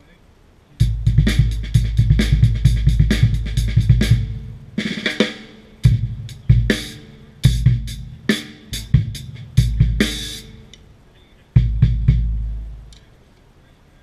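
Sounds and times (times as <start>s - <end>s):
acoustic drum kit: 0.8s - 10.8s, 11.6s - 13.0s.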